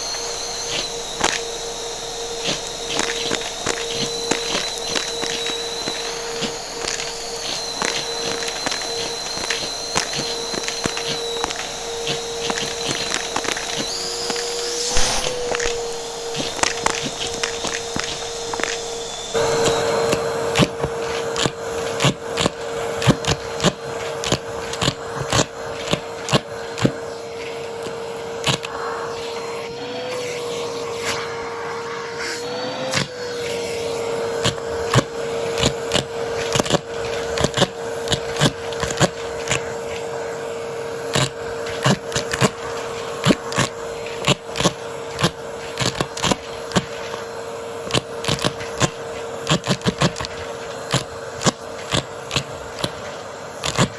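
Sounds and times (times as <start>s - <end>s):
vacuum cleaner motor whine: 0.0s - 53.9s.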